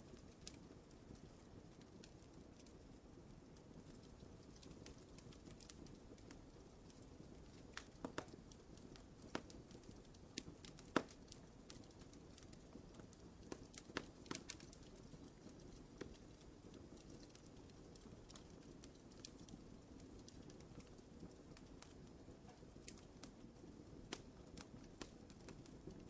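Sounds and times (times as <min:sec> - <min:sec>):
soft low hiss: 0:00.0 - 0:26.0
wood fire crackling: 0:00.0 - 0:26.0.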